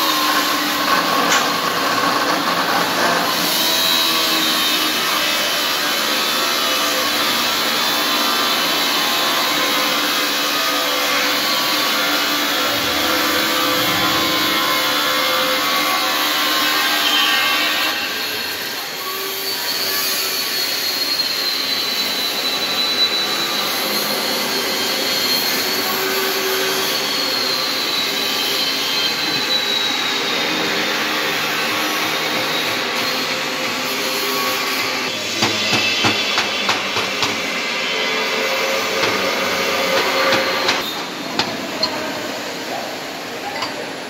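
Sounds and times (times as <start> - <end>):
angle grinder whining on steel: 0.0 - 43.9.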